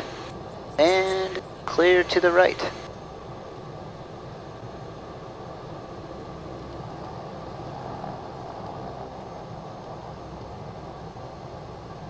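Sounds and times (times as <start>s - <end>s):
turboprop engine running: 0.0s - 12.0s.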